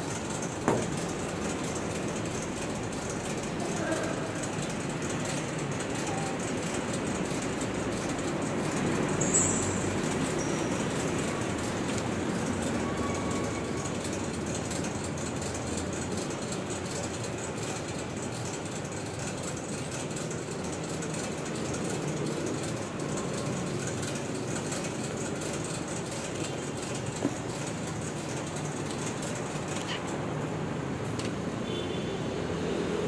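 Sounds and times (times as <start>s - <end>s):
conveyor and machinery running: 0.0s - 31.8s.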